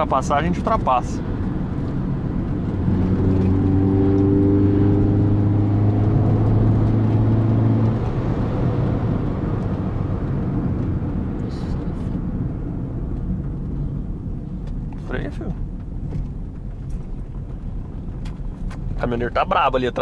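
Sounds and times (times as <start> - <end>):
car engine droning under load: 0.0 - 20.0
tyre and road noise on wet road: 0.0 - 20.0.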